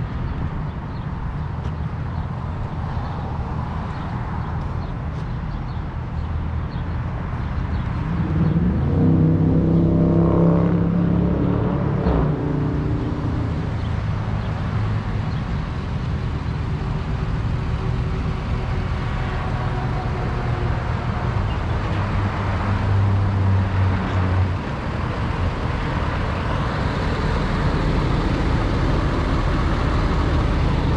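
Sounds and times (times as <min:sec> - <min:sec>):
vehicle engine humming: 0:00.0 - 0:30.9.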